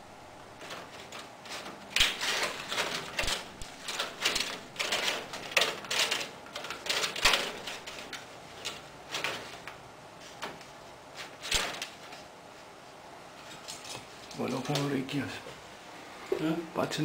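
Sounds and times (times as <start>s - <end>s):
plastic ceiling tile crackling: 0.0s - 15.0s.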